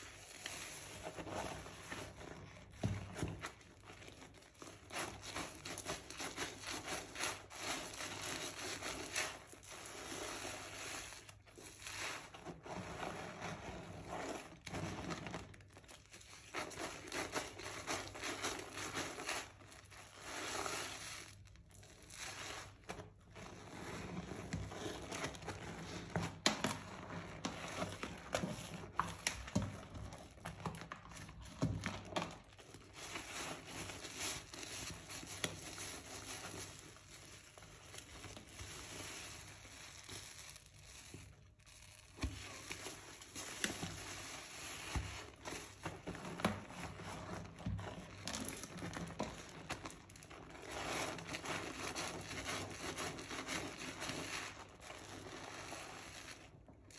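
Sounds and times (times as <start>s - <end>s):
hands squishing wet soap: 0.0s - 56.9s.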